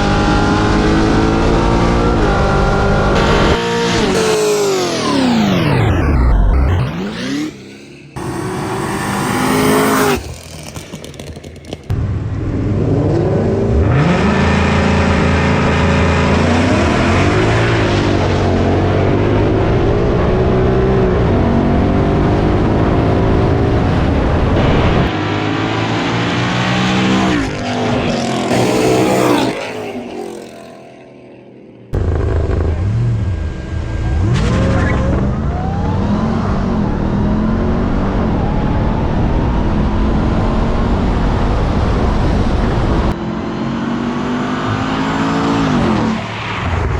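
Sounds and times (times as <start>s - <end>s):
car engines revving hard: 0.0s - 31.0s, 32.0s - 46.9s.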